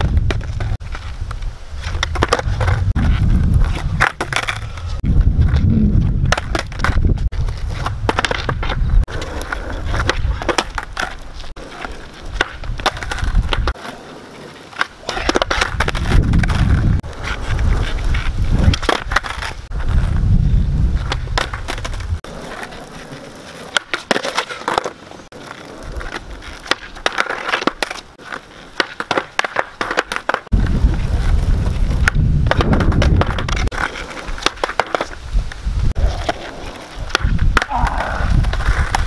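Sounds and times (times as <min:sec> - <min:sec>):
skateboard deck clacking: 0:00.0 - 0:20.0, 0:21.0 - 0:35.2, 0:36.0 - 0:39.0
skateboard wheels rumbling on asphalt: 0:00.0 - 0:39.0.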